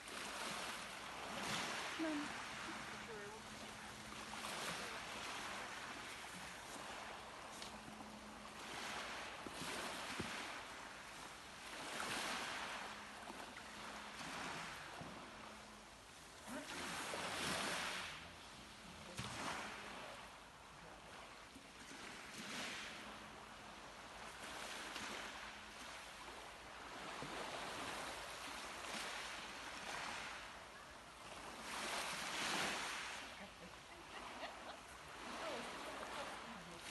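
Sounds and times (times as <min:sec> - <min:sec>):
sea waves washing onto shore: 0:00.0 - 0:36.9.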